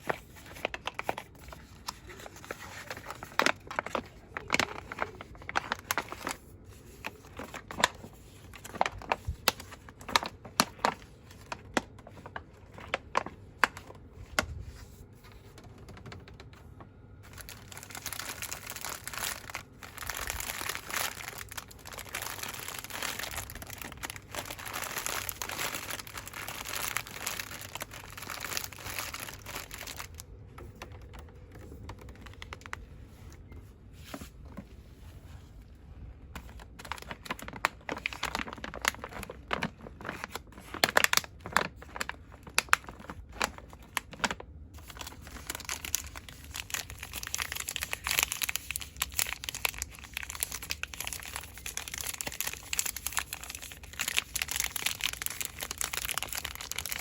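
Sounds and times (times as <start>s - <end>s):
packaging rustling and crinkling: 0.0s - 57.0s.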